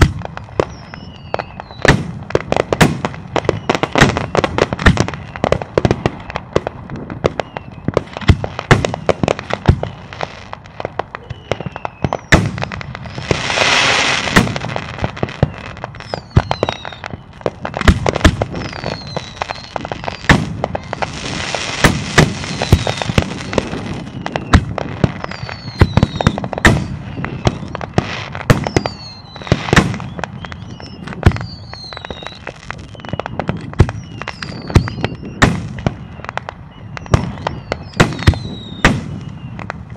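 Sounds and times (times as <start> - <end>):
fireworks bangs and booms: 0.0 - 39.9
fireworks hiss: 7.4 - 39.9.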